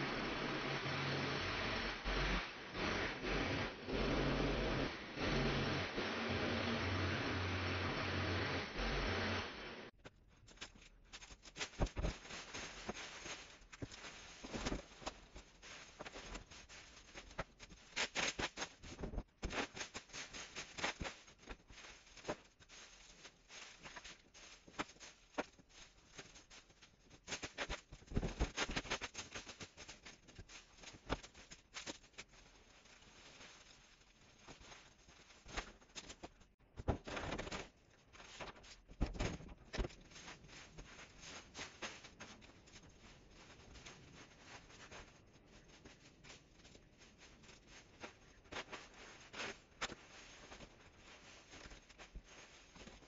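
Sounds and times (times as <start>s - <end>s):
hedge clippings rustling: 10.3s - 53.0s.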